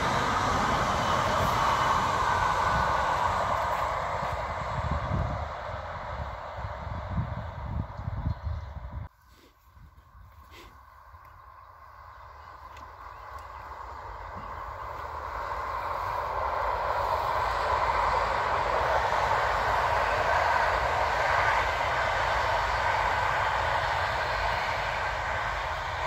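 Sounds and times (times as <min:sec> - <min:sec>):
train wheels rushing on rails: 0:00.0 - 0:08.9, 0:12.3 - 0:26.0.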